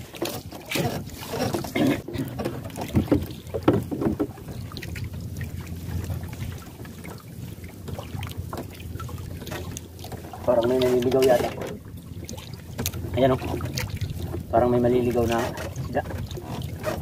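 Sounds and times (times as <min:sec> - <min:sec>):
water splashing: 0:00.0 - 0:17.0.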